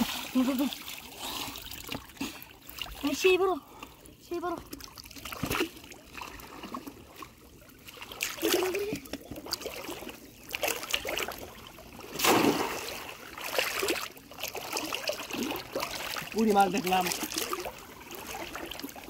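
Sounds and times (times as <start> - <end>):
shallow water splashing and sloshing: 0.0 - 19.0.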